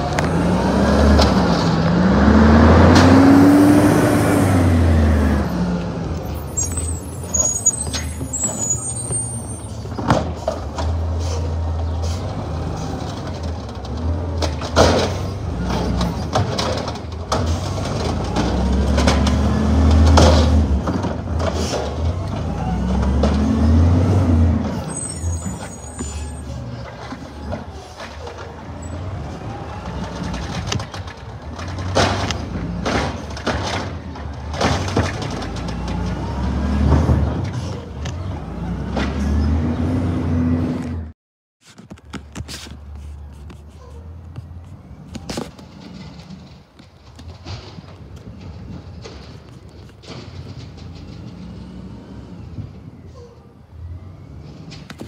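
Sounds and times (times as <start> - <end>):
trash cart banging against truck: 0.0 - 5.4, 6.2 - 39.6, 45.2 - 52.9
garbage truck engine revving: 0.0 - 41.1, 44.8 - 53.1
quiet street sound: 0.0 - 55.0.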